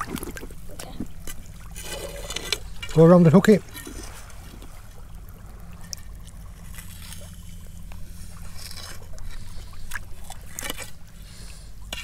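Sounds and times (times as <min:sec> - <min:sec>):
seawater sloshing and trickling: 0:00.0 - 0:12.0
steady low rumble: 0:00.0 - 0:12.0.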